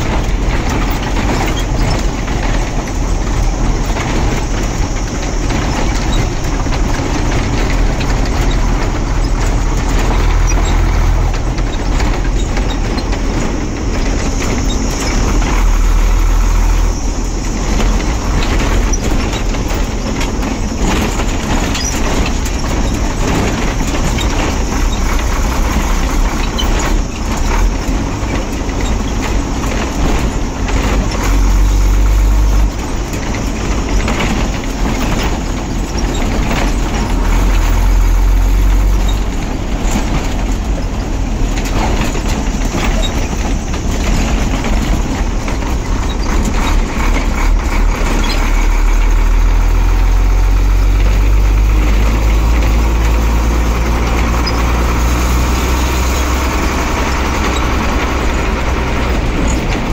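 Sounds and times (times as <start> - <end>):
truck diesel engine drone: 0.0 - 59.9.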